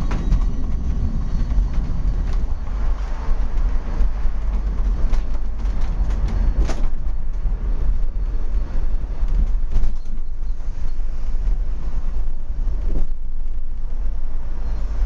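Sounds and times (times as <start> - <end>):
funicular car rumbling on track: 0.0 - 15.0.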